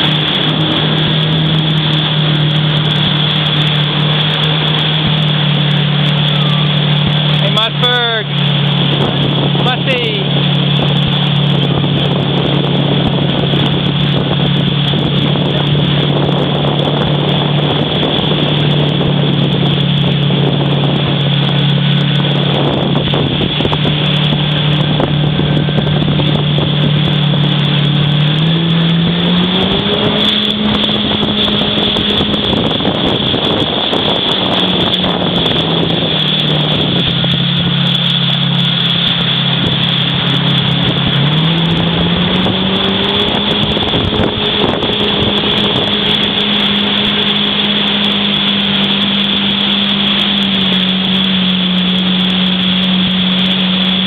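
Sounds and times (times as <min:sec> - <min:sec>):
motorboat engine running: 0:00.0 - 0:54.0.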